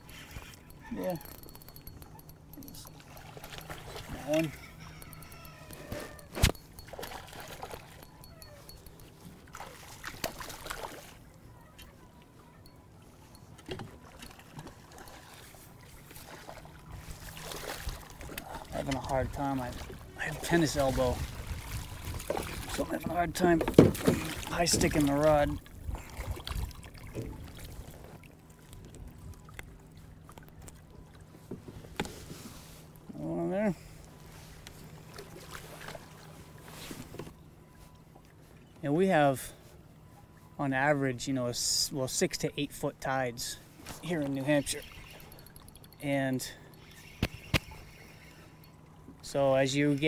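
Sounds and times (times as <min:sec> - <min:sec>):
water splashing and lapping: 0:00.0 - 0:38.8, 0:43.6 - 0:50.0.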